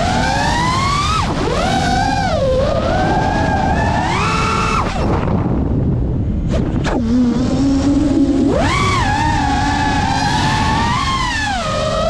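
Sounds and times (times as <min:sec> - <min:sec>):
quadcopter motors whining: 0:00.0 - 0:12.0
wind rushing: 0:00.0 - 0:12.0.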